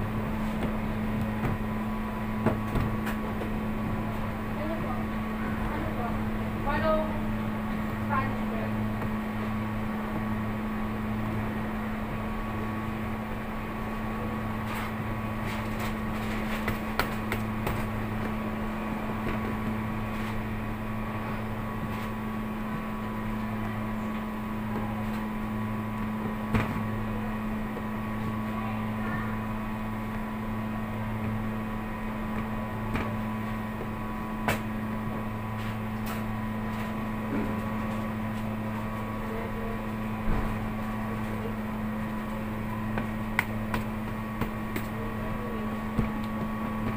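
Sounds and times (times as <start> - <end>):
kitchen equipment humming: 0.0 - 46.9.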